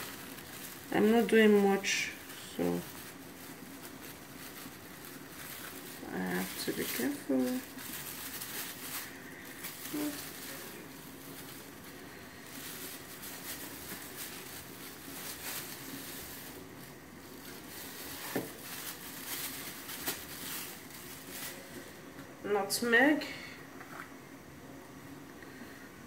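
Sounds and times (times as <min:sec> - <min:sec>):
plastic bag rustling: 0:00.0 - 0:22.2.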